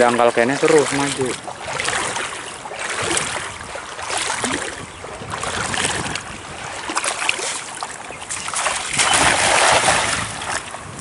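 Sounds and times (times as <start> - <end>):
shallow river water running: 0.0 - 11.0
water splashing: 0.0 - 11.0.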